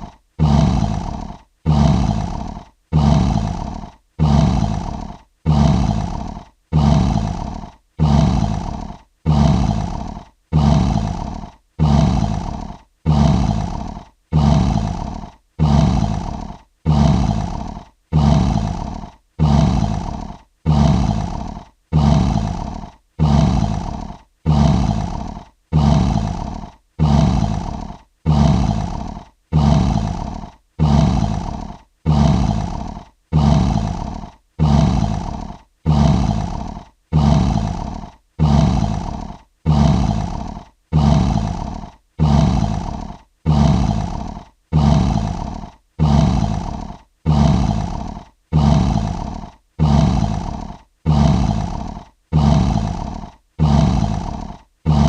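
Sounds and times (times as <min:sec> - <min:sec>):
lion roar: 0:00.0 - 0:55.0.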